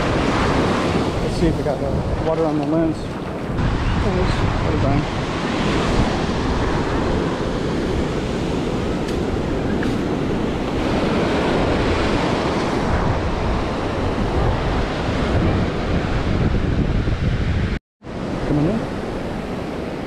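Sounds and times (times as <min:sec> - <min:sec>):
ocean surf breaking: 0:00.0 - 0:20.0
wind buffeting the microphone: 0:00.0 - 0:20.0.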